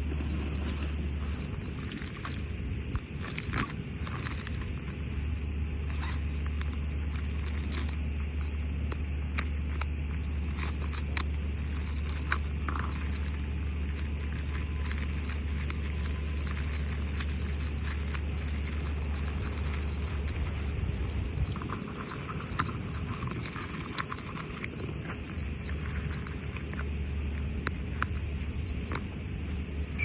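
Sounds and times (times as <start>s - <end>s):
insect trilling: 0.0s - 30.0s
small clicks and cracks: 0.0s - 30.0s.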